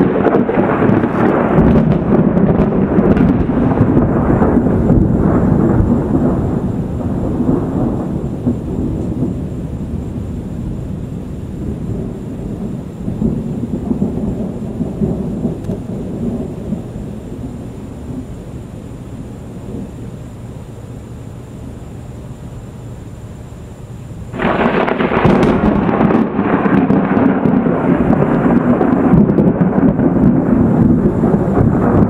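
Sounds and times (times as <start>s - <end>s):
rolling thunder: 0.0s - 20.0s, 24.3s - 32.0s.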